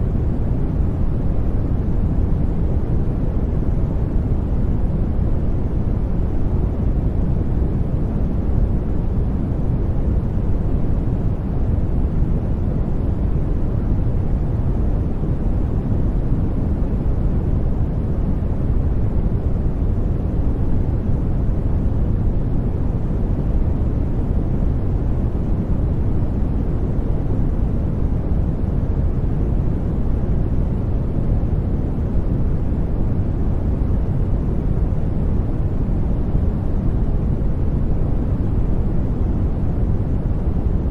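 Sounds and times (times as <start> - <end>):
brown noise hiss: 0.0 - 40.9.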